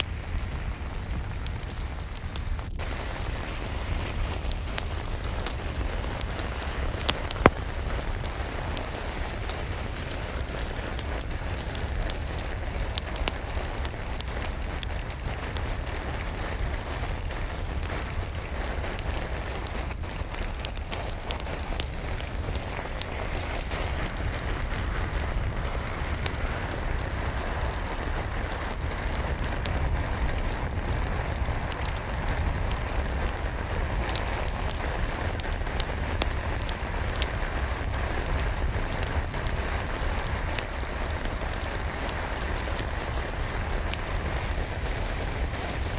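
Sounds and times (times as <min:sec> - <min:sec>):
steady rain: 0:00.0 - 0:45.9
wood fire crackling: 0:00.0 - 0:45.9.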